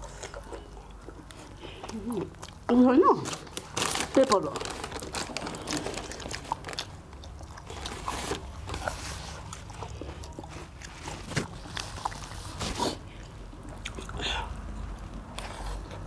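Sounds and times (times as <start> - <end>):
biting and chewing crunches: 0.0 - 16.0.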